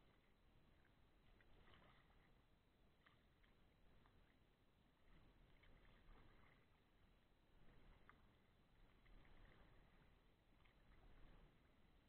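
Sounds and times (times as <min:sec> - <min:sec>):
paddle drips and splashes: 0:00.0 - 0:12.0.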